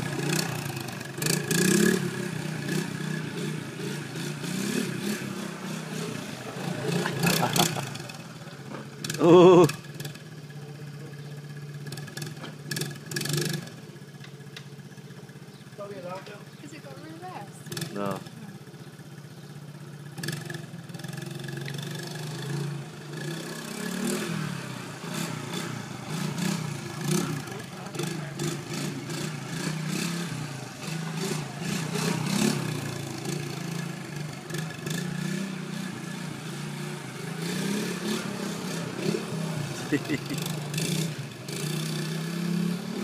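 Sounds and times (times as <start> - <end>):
small engine revving: 0.0 - 43.0.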